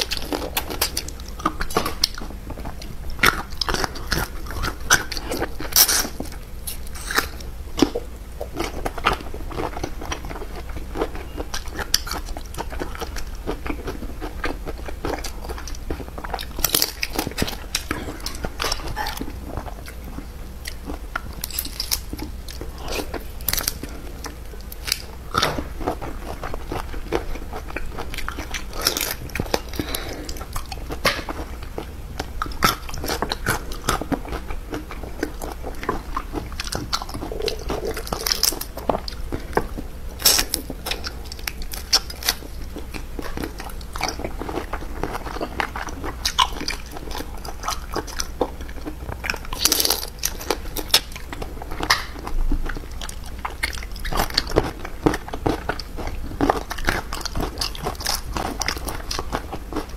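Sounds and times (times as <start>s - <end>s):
person chewing and sucking: 0.0s - 59.9s.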